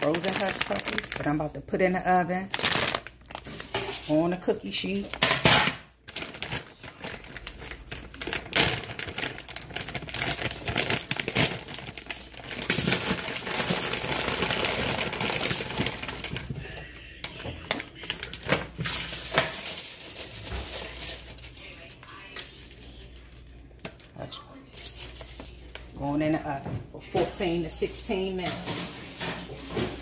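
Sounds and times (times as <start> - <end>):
frozen pieces rattling on pan: 0.0 - 1.5, 2.5 - 17.0, 17.6 - 26.3, 27.1 - 30.0
plastic bag crinkling: 0.0 - 26.2.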